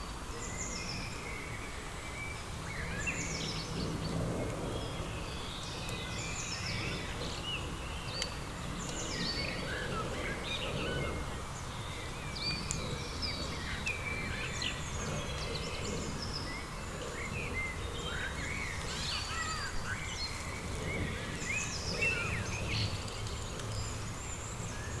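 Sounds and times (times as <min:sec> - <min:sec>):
bird chirps and gliding calls: 0:00.0 - 0:25.0.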